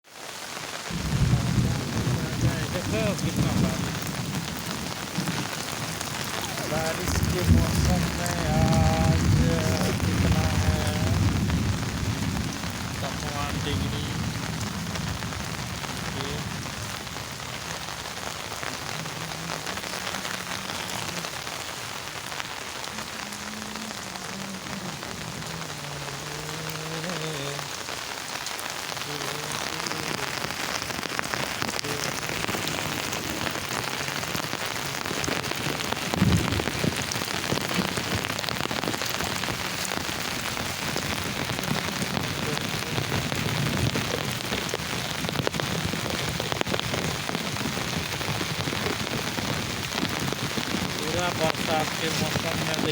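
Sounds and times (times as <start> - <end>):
heavy rain pattering: 0.0 - 52.9.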